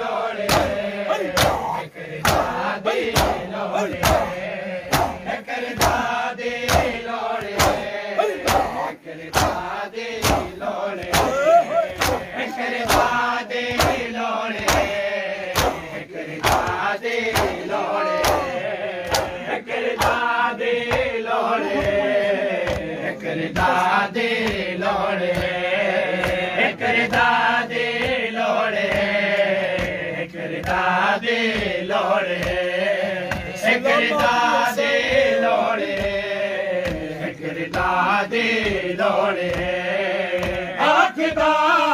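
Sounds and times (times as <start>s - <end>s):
men chanting in unison: 0.0s - 41.9s
hands slapping chests: 0.4s - 25.6s, 26.2s - 28.2s, 28.8s - 34.5s, 36.8s - 41.5s.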